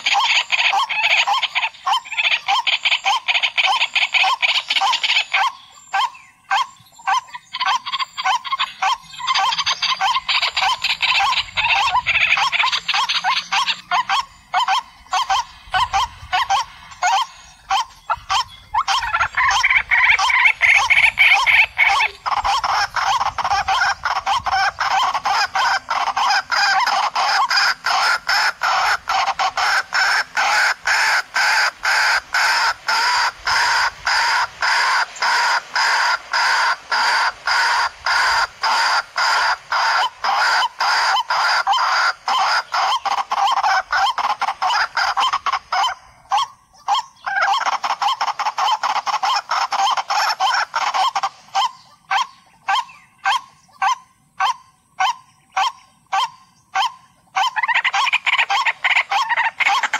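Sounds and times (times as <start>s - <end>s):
waterhen harsh repeated calls: 0.0s - 59.9s.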